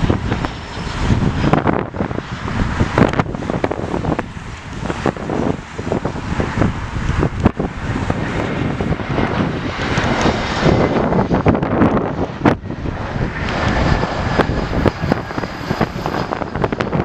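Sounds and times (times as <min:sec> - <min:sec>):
jet engine noise: 0:00.0 - 0:17.0
wind buffeting microphone: 0:00.0 - 0:17.0.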